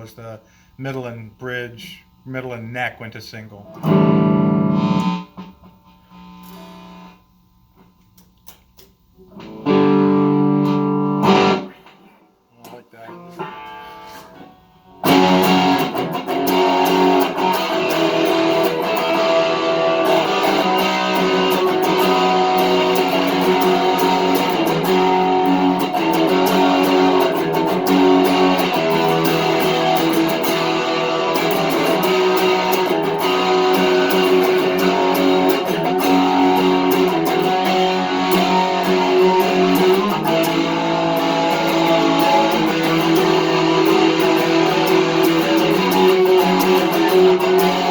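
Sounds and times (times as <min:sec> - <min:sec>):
electric guitar chords strummed: 0:02.4 - 0:07.2, 0:09.2 - 0:47.9.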